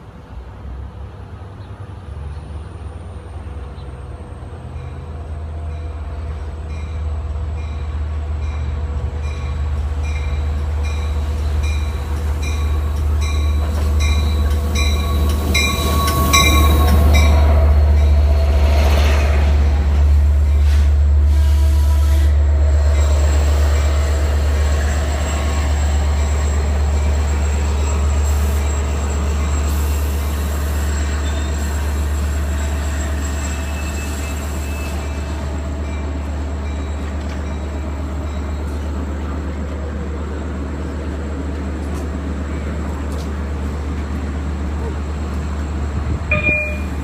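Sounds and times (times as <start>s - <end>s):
diesel locomotive rumbling: 0.0s - 47.0s.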